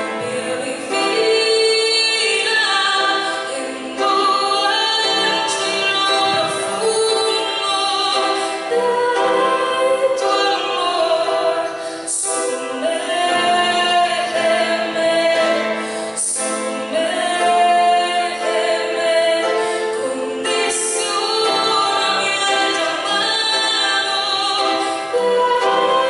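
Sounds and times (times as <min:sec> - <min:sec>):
woman singing praise song: 0:00.0 - 0:26.0.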